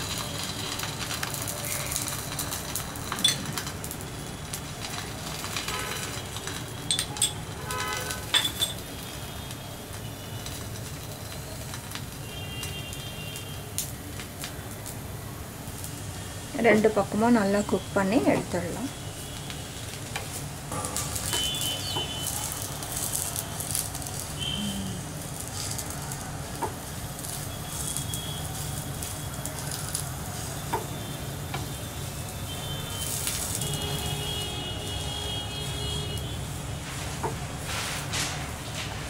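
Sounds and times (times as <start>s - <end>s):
flatbread sizzling in oil: 0.0s - 39.0s.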